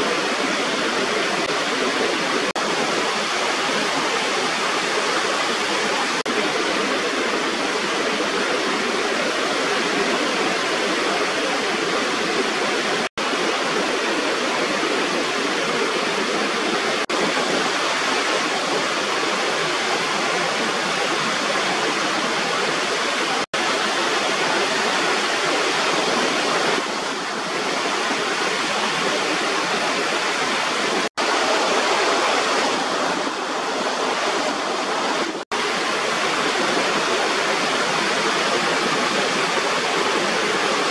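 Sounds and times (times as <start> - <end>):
water rushing over a weir: 0.0 - 40.9.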